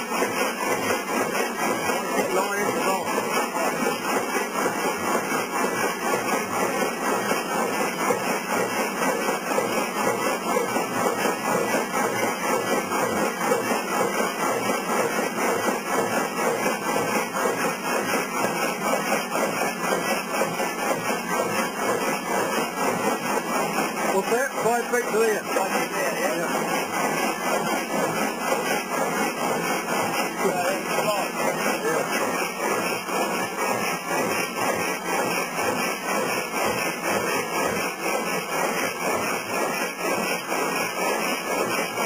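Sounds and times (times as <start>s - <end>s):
belt-driven machinery clattering: 0.0s - 42.0s.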